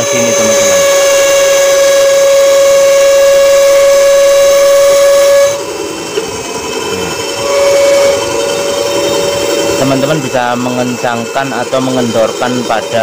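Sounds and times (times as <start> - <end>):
band saw high-pitched whine: 0.0 - 13.0.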